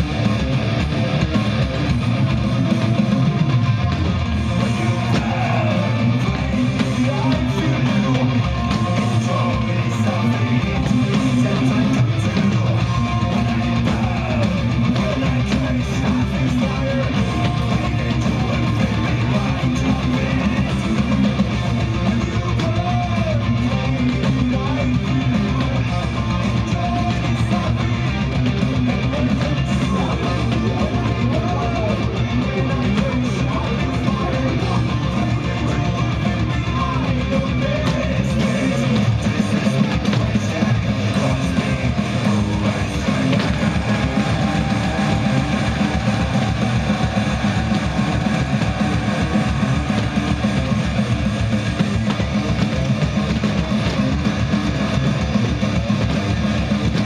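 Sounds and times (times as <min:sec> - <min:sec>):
rock song with electric guitar: 0:00.0 - 0:57.0.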